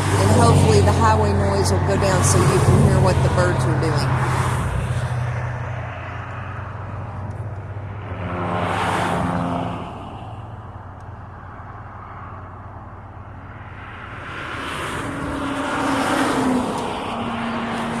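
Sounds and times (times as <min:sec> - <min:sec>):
highway traffic noise: 0:00.0 - 0:18.0
vehicle passing close: 0:00.0 - 0:18.0.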